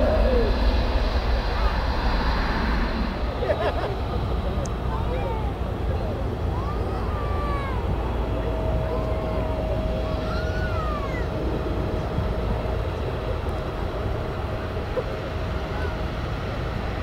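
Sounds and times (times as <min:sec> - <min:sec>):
distant jet engines rumbling: 0:00.0 - 0:17.0
steady engine whine: 0:00.0 - 0:17.0.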